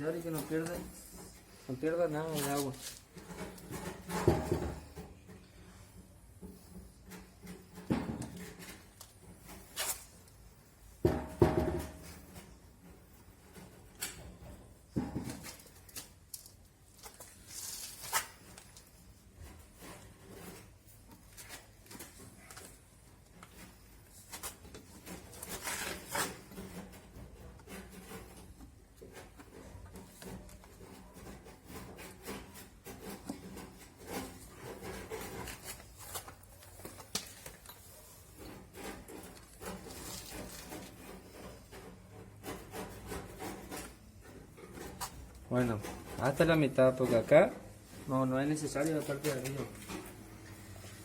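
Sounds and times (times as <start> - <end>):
hands rubbing and scraping plastic: 0.0 - 10.7, 12.1 - 51.0.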